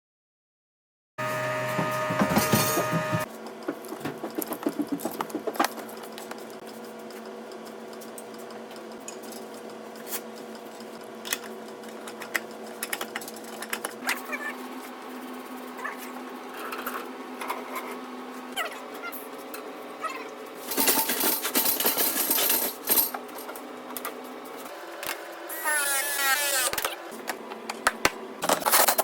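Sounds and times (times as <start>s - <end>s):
mechanical hum: 1.2s - 29.0s.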